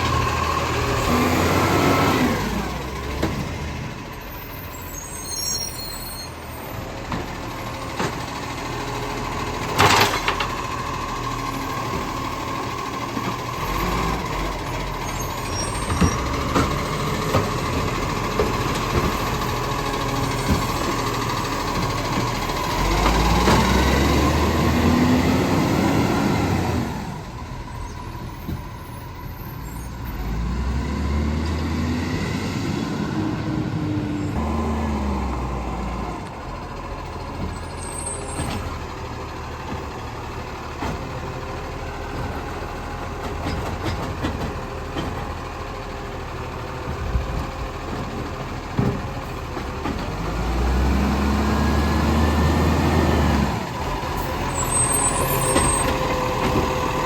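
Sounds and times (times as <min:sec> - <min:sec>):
diesel engine revving: 0:00.0 - 0:05.8, 0:06.4 - 0:57.0.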